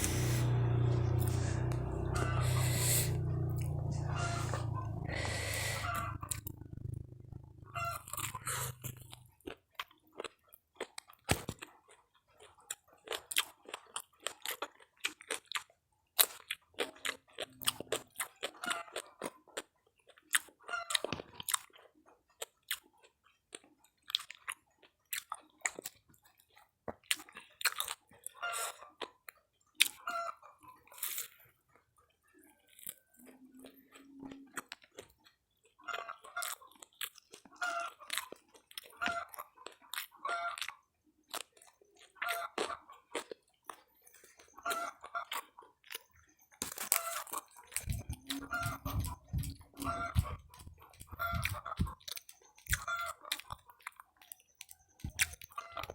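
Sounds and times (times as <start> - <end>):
crunching and chewing fried snacks: 0.0 - 55.9.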